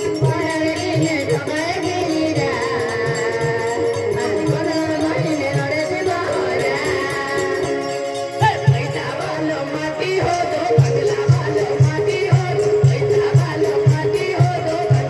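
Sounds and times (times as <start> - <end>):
steady drum beat: 0.0 - 15.0
wavering melody line: 0.0 - 15.0.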